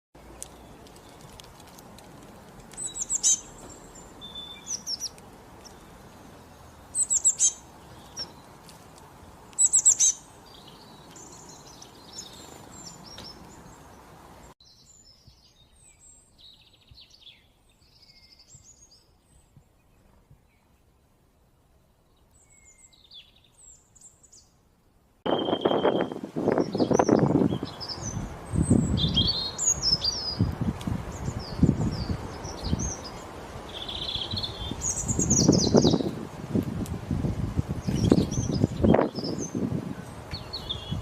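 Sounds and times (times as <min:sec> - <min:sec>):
songbird singing: 0:00.2 - 0:36.2, 0:37.3 - 0:41.0.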